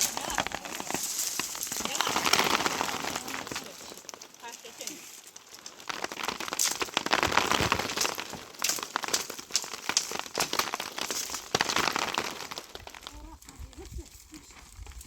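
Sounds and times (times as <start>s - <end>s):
dry material rustling and crackling: 0.0s - 15.0s.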